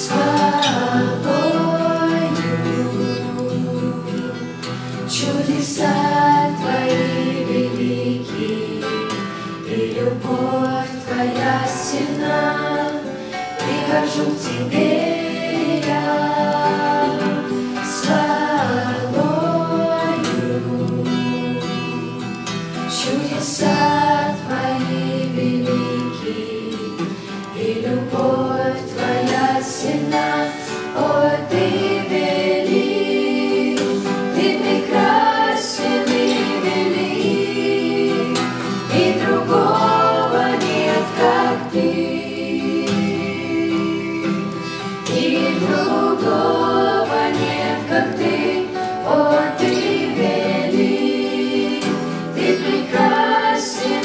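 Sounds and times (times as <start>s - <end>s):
family singing together: 0.0s - 54.0s
strummed acoustic guitar: 0.0s - 54.0s.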